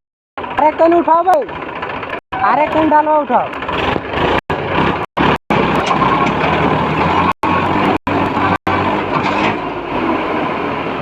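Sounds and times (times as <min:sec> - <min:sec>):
tractor diesel engine running: 0:00.4 - 0:11.0.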